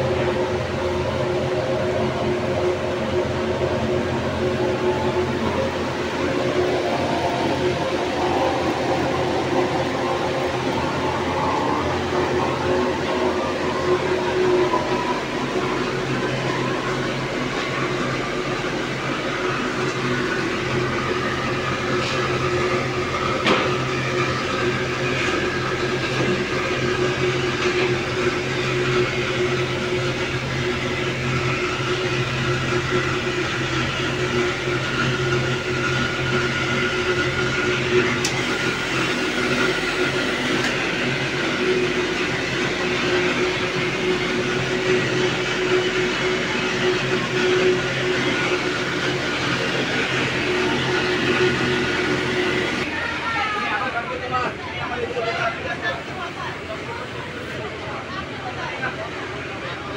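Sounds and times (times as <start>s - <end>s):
electric boiler humming and whirring: 0.0s - 55.4s.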